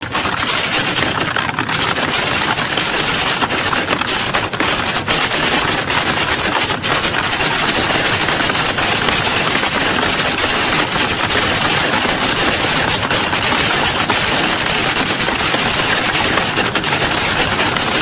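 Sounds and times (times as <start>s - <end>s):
keyboards clattering: 0.0s - 18.0s.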